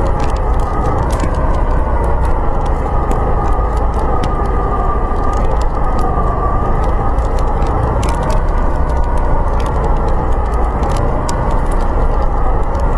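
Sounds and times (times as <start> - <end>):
wind howling: 0.0 - 12.9
wood fire crackling: 0.0 - 12.9.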